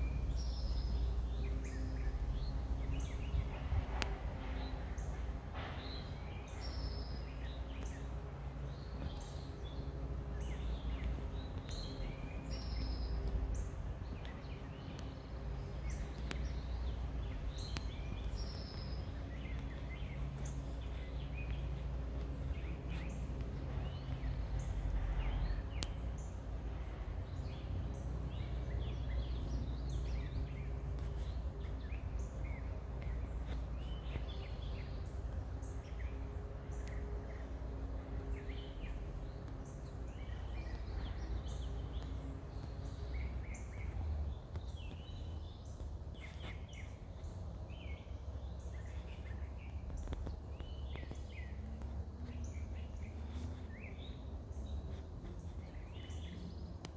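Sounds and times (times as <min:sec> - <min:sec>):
birds chirping: 0:00.0 - 0:56.9.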